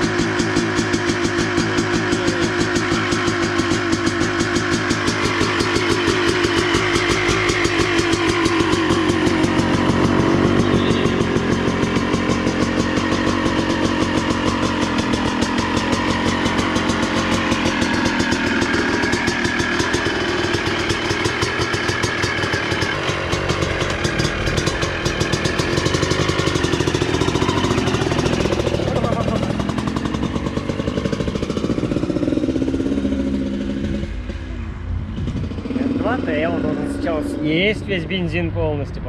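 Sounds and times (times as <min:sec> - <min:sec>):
two-stroke engine popping exhaust: 0:00.0 - 0:39.0.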